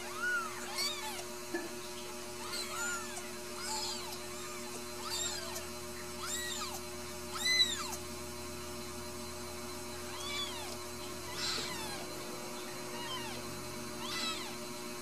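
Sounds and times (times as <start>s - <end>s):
kittens mewing: 0.0s - 1.5s, 2.2s - 8.2s, 9.9s - 14.8s
faint electrical hum: 0.0s - 15.0s.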